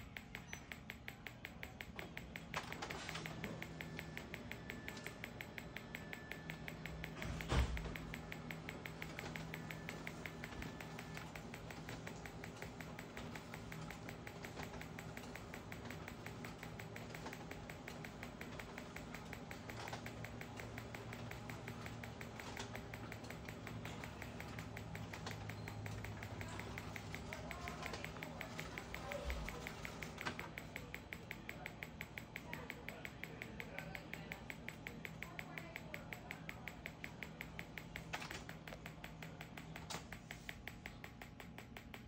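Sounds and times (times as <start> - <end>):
machine clicking rapidly: 0.0 - 42.0.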